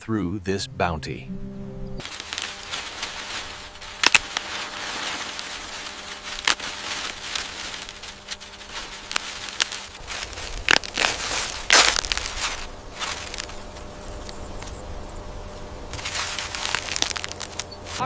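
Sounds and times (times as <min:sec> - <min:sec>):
dry corn stalks rustling: 0:02.0 - 0:18.0.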